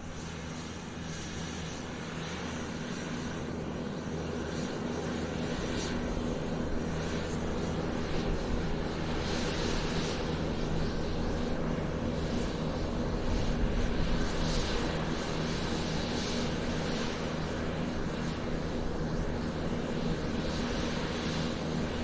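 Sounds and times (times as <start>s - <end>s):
airplane engines humming: 0.0s - 22.0s.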